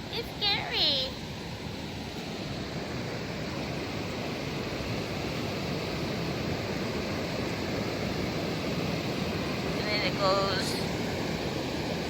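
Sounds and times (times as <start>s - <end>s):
waterfall rushing roar: 0.0s - 12.0s.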